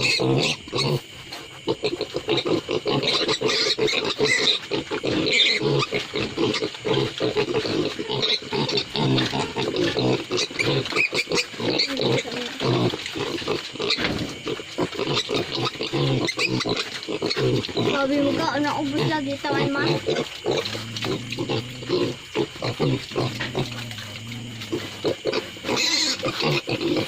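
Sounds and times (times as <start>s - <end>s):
pigs grunting and squealing: 0.0s - 27.0s.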